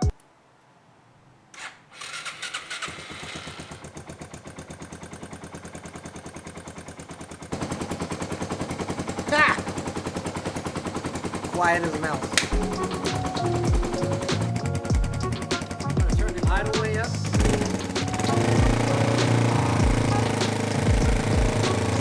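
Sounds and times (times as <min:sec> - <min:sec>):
engine cranking: 0:01.5 - 0:22.0
motorcycle engine running: 0:02.1 - 0:22.0.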